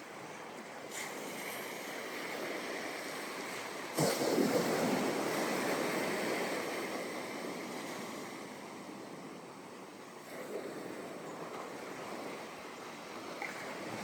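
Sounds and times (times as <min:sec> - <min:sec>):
ocean waves on beach: 0:00.0 - 0:14.0.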